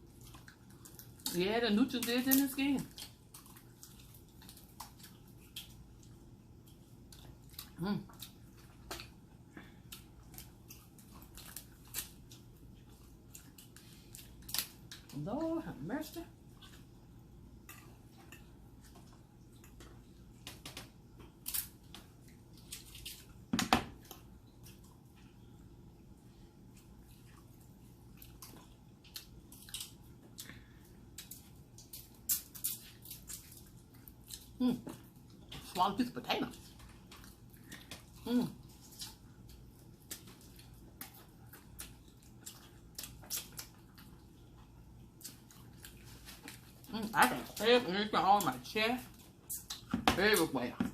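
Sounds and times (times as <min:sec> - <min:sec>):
wet chewing: 0:00.0 - 0:50.9.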